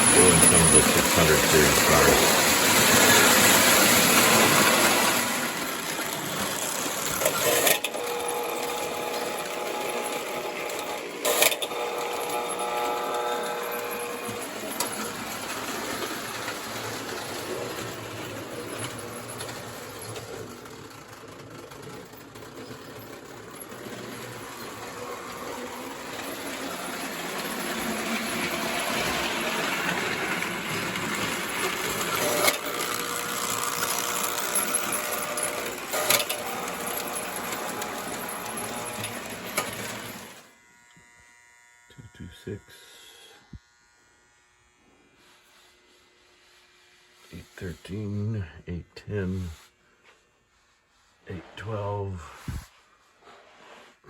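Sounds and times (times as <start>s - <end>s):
toy train whirring on track: 0.0s - 47.9s.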